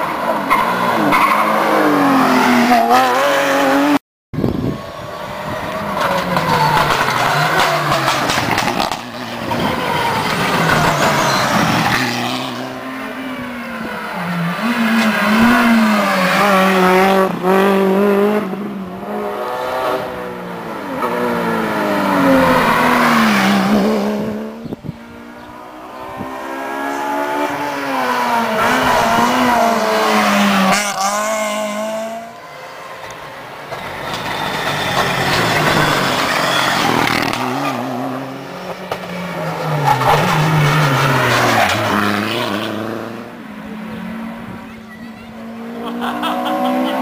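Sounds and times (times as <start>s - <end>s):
rally car engines revving: 0.0s - 47.0s.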